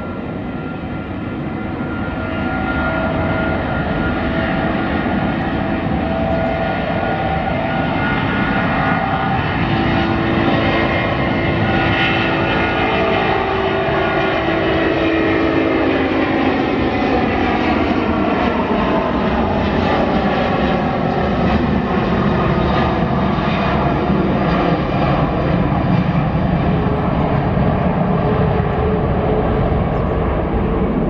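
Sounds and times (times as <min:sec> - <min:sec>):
jet airliner engines: 0:00.0 - 0:31.0.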